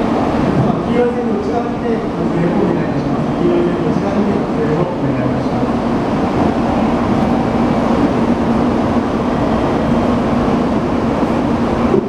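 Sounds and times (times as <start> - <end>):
diesel railcar engines droning: 0.0 - 12.0.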